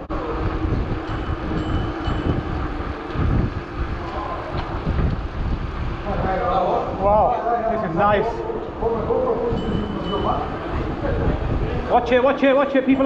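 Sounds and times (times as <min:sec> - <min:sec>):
bicycle tyres rumbling on pavement: 0:00.0 - 0:13.0
wind buffeting microphone: 0:00.0 - 0:13.0.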